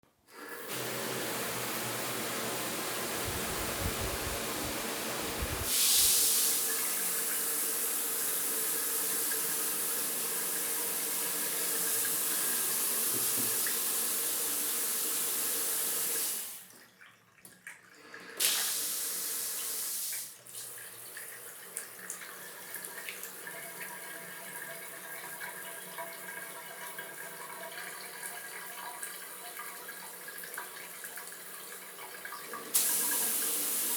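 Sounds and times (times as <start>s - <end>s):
shower water running: 0.3s - 16.8s, 18.0s - 29.5s, 30.4s - 33.9s.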